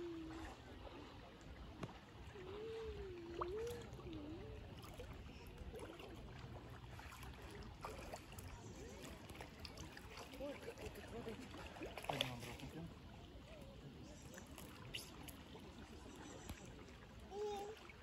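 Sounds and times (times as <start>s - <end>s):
low water rumble: 0.0s - 18.0s
water lapping and splashing: 0.0s - 18.0s.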